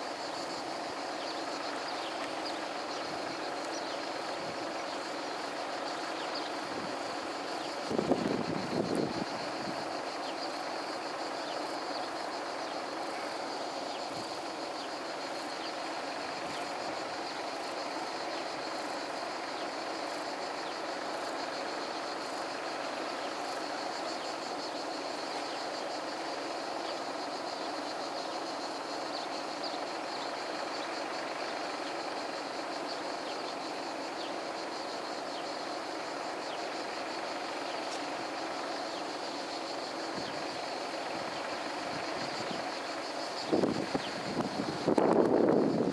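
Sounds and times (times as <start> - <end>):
constant mid hum: 0.0 - 45.9.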